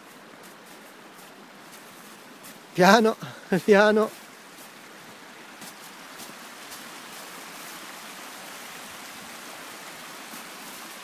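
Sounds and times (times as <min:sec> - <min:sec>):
flowing stream rushing: 0:00.0 - 0:11.0.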